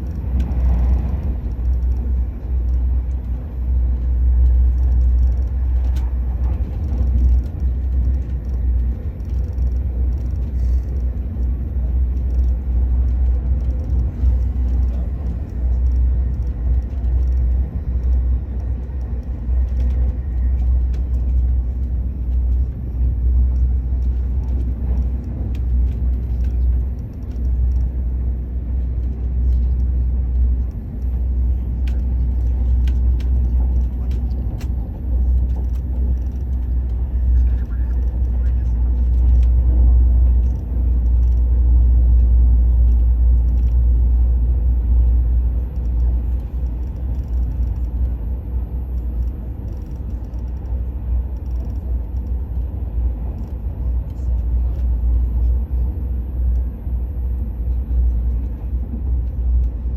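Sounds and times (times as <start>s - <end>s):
train rumbling inside carriage: 0.0s - 59.9s.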